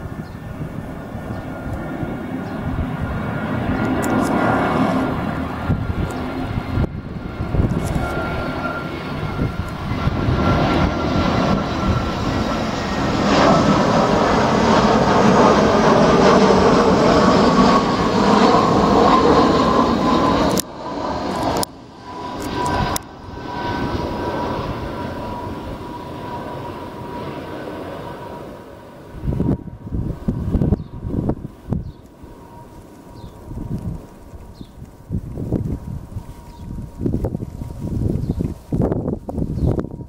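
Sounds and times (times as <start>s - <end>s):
jet airliner passing: 0.0s - 40.0s.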